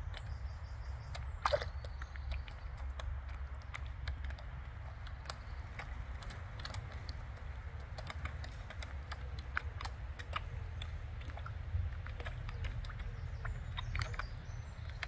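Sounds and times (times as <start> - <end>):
fish clicks and pops at water: 0.0 - 15.0
steady low rumble: 0.0 - 15.0.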